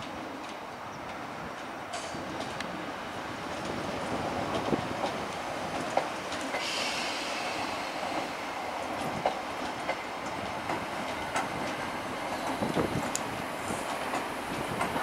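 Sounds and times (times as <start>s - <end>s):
train wheels clicking over rail joints: 0.0s - 2.8s, 3.5s - 15.0s.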